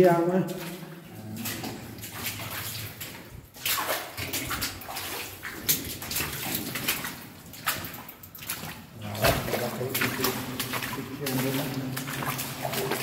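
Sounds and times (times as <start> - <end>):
wading through shallow water: 0.0 - 13.0.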